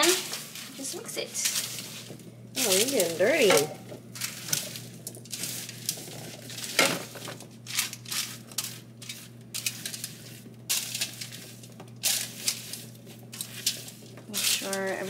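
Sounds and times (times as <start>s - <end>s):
aluminium foil crinkling: 0.0s - 15.0s
steady low hum: 0.0s - 15.0s
vegetables rustling and scraping: 0.0s - 15.0s.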